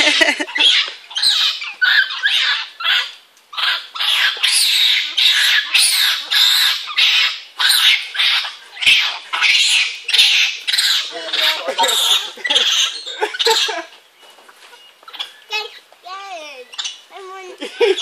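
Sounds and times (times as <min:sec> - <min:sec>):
monkeys high-pitched calls: 0:00.0 - 0:14.0, 0:14.6 - 0:15.9, 0:16.6 - 0:18.0.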